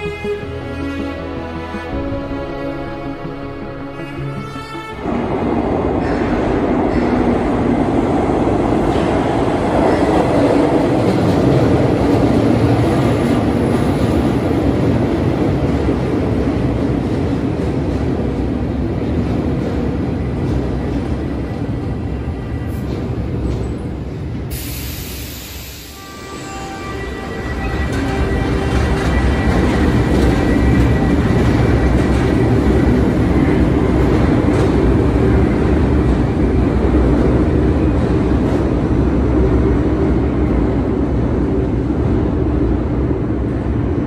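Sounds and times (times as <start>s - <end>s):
metro train rumbling into station: 0.0s - 44.0s.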